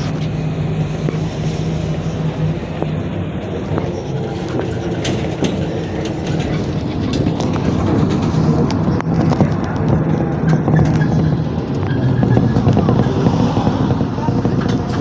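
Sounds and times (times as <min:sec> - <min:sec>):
bus engine droning: 0:00.0 - 0:15.0
bus fittings rattling and clicking: 0:00.0 - 0:15.0.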